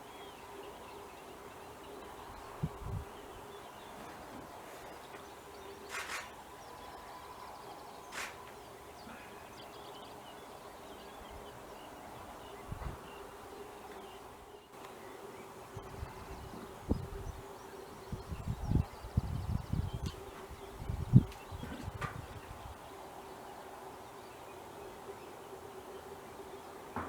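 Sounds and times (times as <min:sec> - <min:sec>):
distant bird calls: 0:00.0 - 0:27.0.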